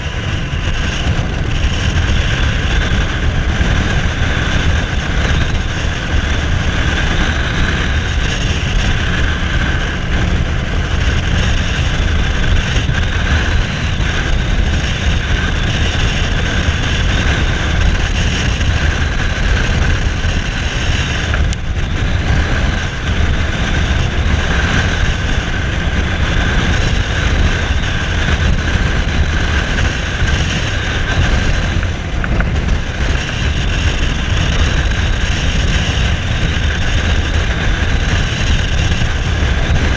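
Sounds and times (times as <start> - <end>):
motorcycle engine running: 0.0 - 39.9
wind rushing across microphone: 0.0 - 39.9.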